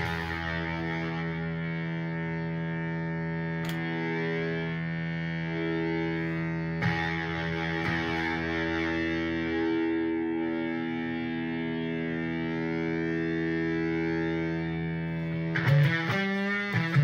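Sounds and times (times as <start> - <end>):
distorted electric guitar chord: 0.0 - 17.0.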